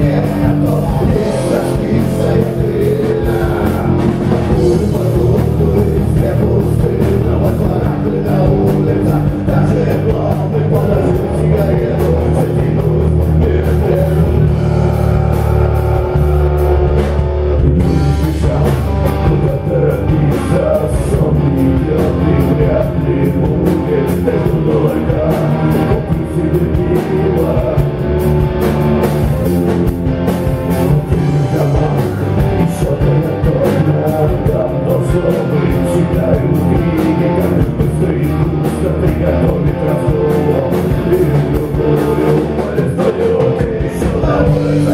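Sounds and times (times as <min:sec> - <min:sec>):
electric guitars: 0:00.0 - 0:44.9
heavy bass line: 0:00.0 - 0:44.9
live rock band playing: 0:00.0 - 0:44.9.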